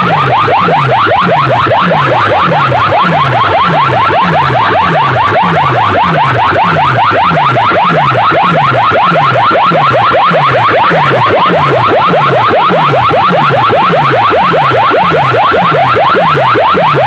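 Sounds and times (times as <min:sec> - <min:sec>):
electronic siren effect: 0:00.0 - 0:17.0.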